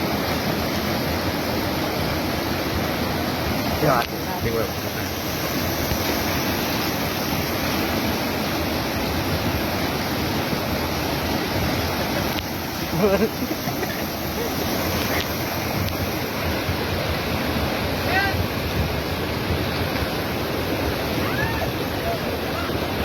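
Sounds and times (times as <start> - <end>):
fast-flowing river rushing: 0.0 - 23.0.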